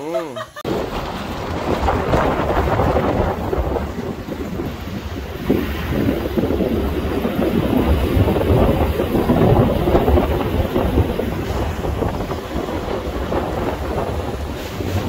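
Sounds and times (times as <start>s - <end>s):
moving vehicle rumble: 0.6s - 15.0s
wind buffeting microphone: 0.6s - 15.0s.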